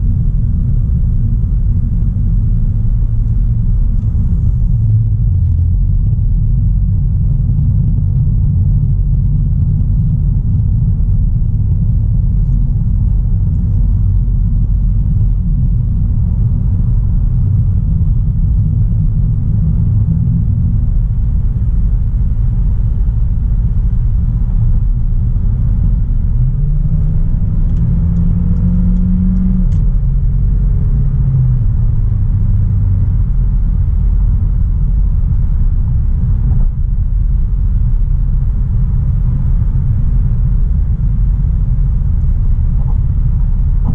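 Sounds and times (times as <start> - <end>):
car engine rumble: 0.0 - 43.9
road noise: 0.0 - 43.9.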